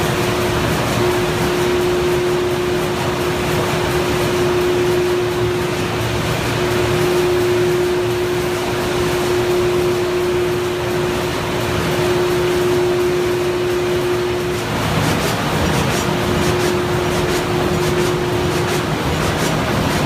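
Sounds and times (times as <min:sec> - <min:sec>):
box-making machine humming: 0:00.0 - 0:20.0
constant mid-pitched tone: 0:00.1 - 0:19.1.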